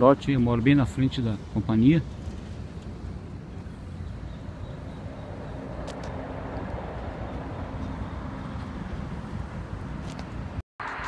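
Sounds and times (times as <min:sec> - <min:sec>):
vehicle passing: 0:01.4 - 0:11.0.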